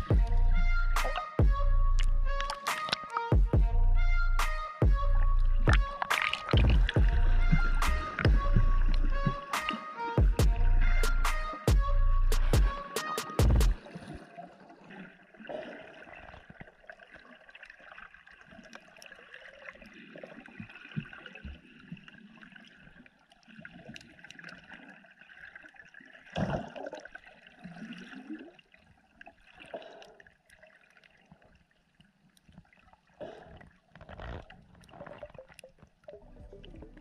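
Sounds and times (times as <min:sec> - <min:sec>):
water sloshing and gurgling: 0:00.0 - 0:37.0.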